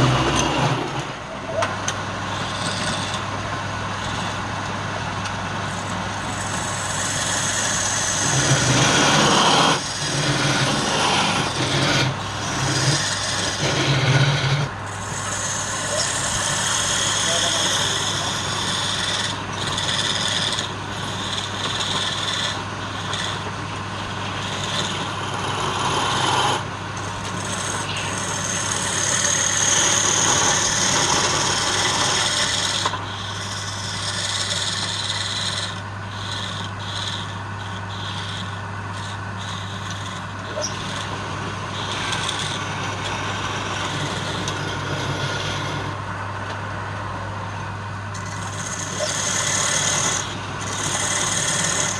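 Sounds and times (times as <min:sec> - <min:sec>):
tool scraping spinning wood: 0:00.0 - 0:46.6, 0:48.1 - 0:51.9
wood lathe humming: 0:00.0 - 0:51.9.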